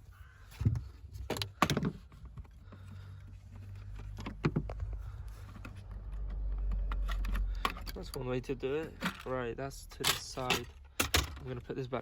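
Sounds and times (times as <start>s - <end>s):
knocks and clicks of handled parts: 0.5s - 11.8s.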